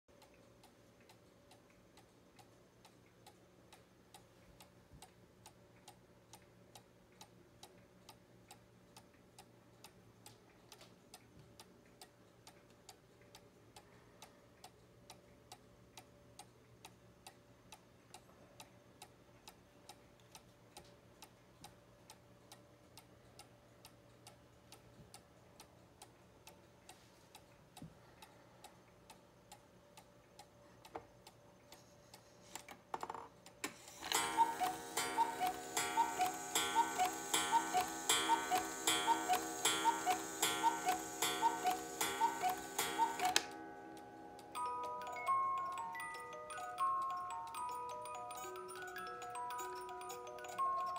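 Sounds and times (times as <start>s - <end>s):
clock ticking: 0.1s - 32.7s, 33.4s - 50.9s
clock clicks: 0.1s - 50.9s.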